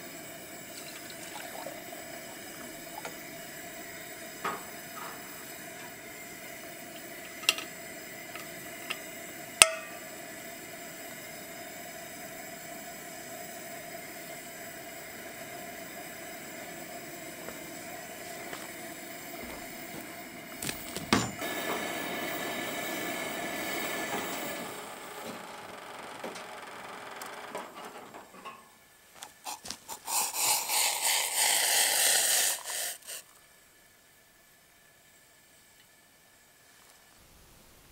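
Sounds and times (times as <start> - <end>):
camp stove burner hissing: 0.0 - 28.1, 29.2 - 37.9.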